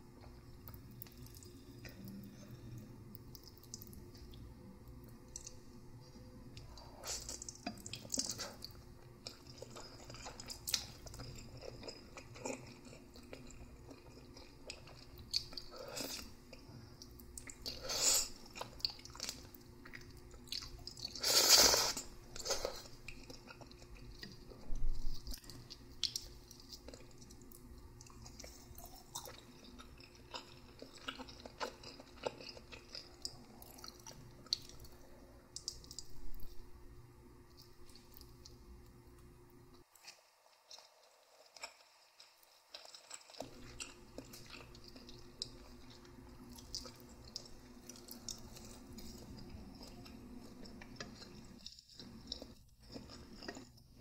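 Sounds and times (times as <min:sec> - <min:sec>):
person chewing noodles: 0:00.2 - 0:05.8, 0:06.5 - 0:36.4, 0:39.9 - 0:54.0.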